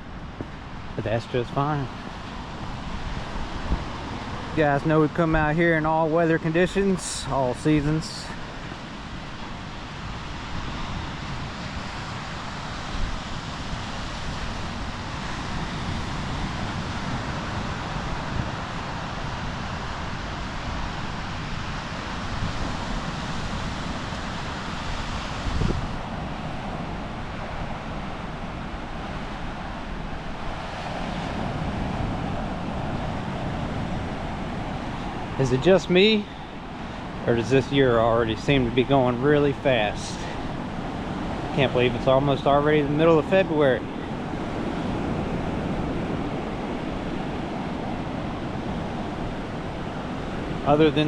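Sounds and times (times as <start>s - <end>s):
ocean surf washing: 0.0s - 51.0s
wind buffeting microphone: 0.0s - 51.0s.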